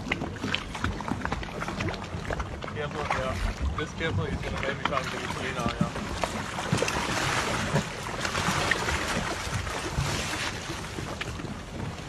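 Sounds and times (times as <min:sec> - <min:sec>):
water splashing and churning: 0:00.0 - 0:12.0
wind on microphone: 0:00.0 - 0:12.0.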